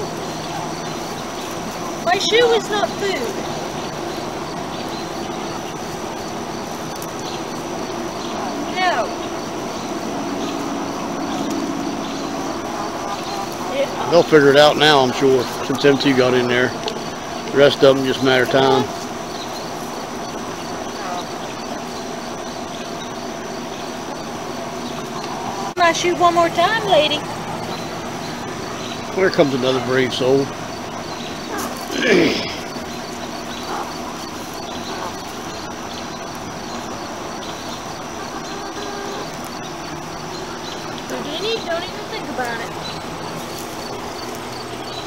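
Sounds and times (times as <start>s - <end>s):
faint hen clucks: 0.0s - 44.8s
exhaust fan whirring: 0.0s - 45.0s
high whine: 0.0s - 45.0s.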